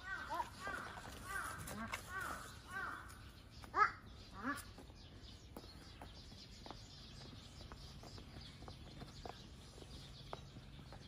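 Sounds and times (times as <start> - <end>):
faint outdoor ambience: 0.0 - 11.0
footsteps on stone path: 0.0 - 11.0.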